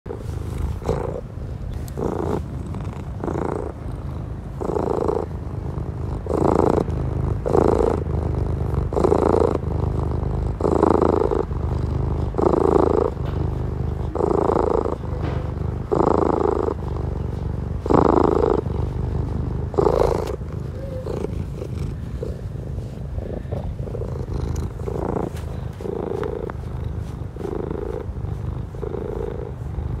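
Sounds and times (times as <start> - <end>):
cat purring: 0.1 - 30.0.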